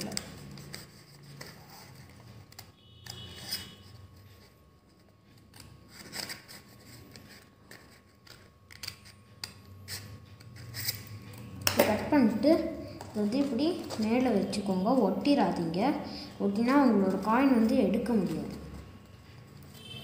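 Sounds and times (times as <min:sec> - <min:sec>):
scissors snipping paper: 0:00.0 - 0:04.2, 0:04.9 - 0:18.9.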